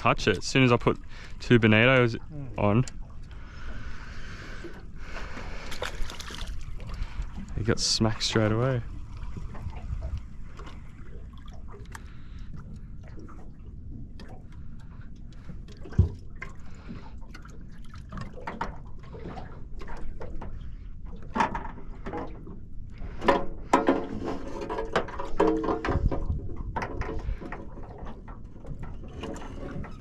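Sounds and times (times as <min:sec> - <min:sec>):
water lapping against boat hull: 0:00.0 - 0:30.0.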